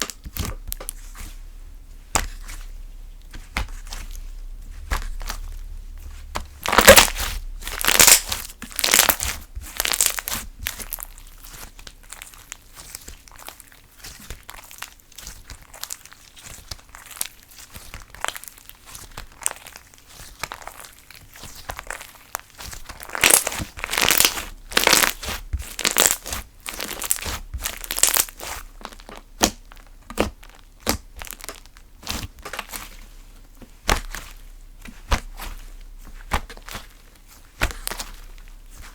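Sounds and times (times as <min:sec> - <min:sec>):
slime squishing and crackling: 0:00.0 - 0:38.9.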